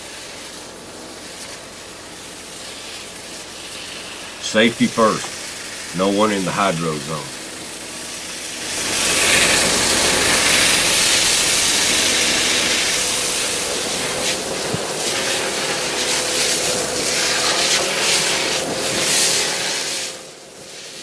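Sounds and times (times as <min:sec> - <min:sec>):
high-pressure water jet blasting soil: 0:00.0 - 0:21.0
steady hum: 0:02.1 - 0:20.9.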